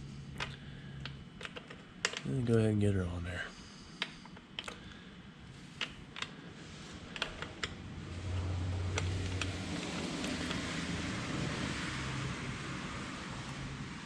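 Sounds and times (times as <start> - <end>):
steady low hum with hiss: 0.0 - 14.0.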